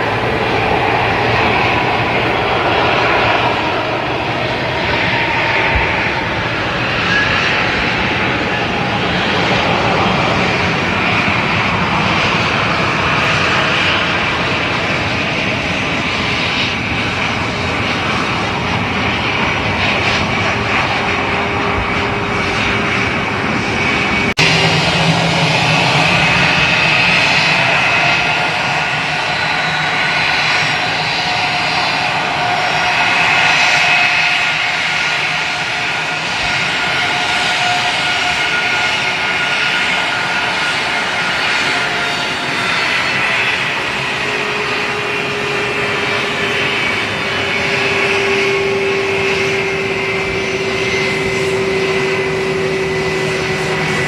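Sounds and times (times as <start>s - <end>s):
jet engines with high whine: 0.0s - 54.0s.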